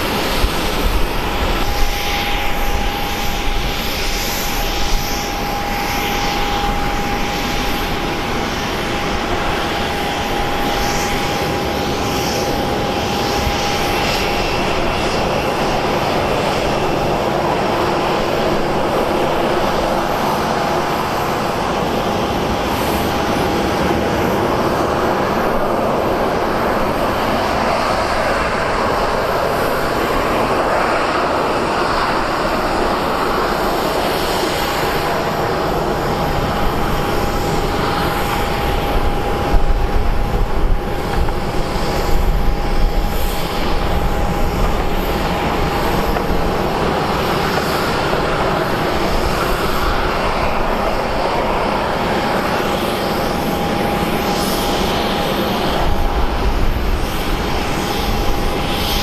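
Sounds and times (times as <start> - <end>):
airplane engines running: 0.0 - 59.0
steady engine whine: 0.0 - 59.0.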